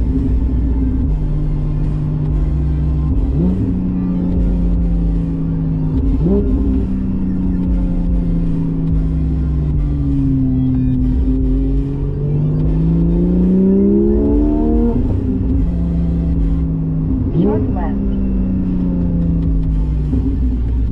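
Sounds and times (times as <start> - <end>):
sports car engine revving: 0.0 - 20.9.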